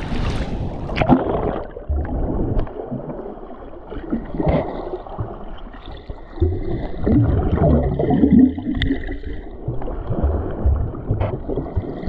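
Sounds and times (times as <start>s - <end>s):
muffled underwater wash: 0.0s - 12.0s
seawater splashing and gurgling: 0.0s - 12.0s.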